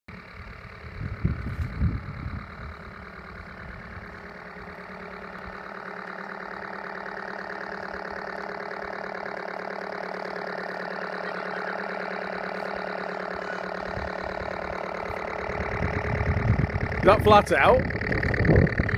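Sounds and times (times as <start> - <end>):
simulated diesel engine idling: 0.1 - 18.9.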